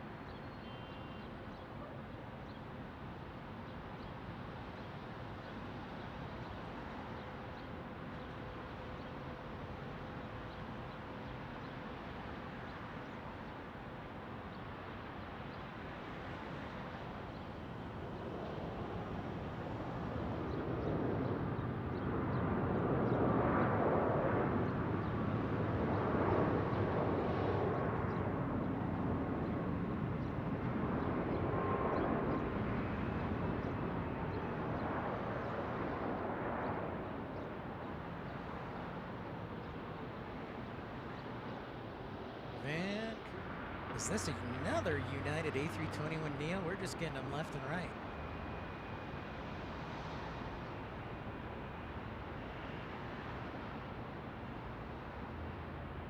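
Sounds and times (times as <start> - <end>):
faint jet engine whine: 0.0 - 56.0.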